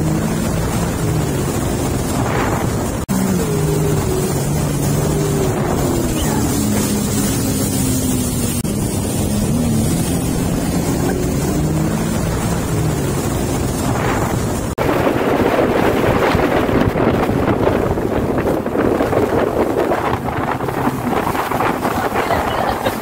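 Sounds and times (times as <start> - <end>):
jet ski engines running: 0.0 - 23.0
rush of wind and spray: 0.0 - 23.0
water rushing: 0.0 - 23.0.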